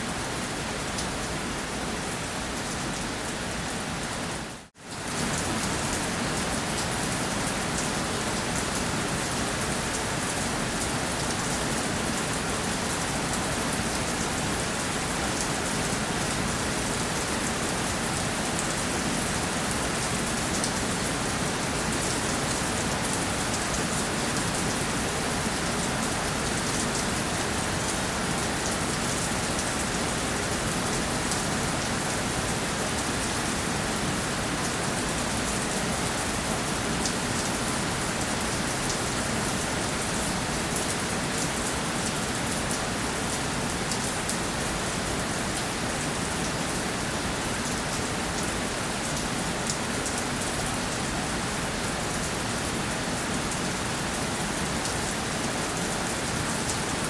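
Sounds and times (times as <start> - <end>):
rain pattering on a surface: 0.1 - 57.0.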